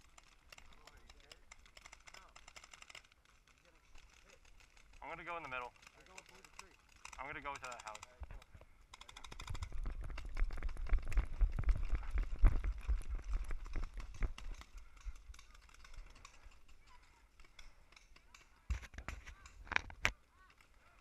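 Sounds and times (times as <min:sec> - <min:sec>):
gear rattling and knocking: 0:00.0 - 0:21.0.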